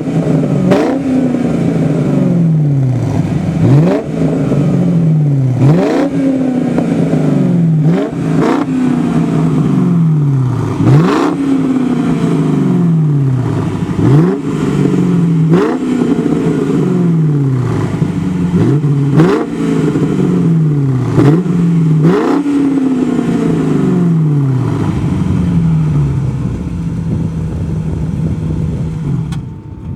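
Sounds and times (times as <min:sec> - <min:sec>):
car engine idling: 0:00.0 - 0:29.9
car engine revving: 0:00.0 - 0:29.9.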